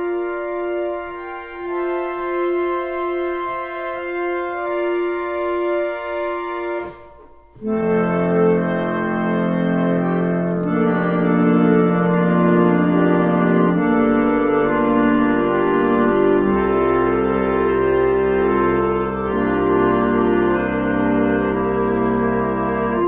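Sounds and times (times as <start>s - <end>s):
reed organ playing chords: 0.0s - 23.0s.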